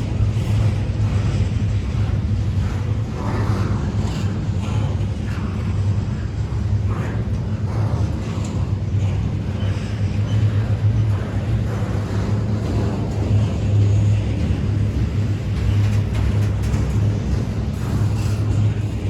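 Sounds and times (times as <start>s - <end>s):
faint train clacks: 0.0s - 19.0s
freight train rumbling past: 0.0s - 19.0s.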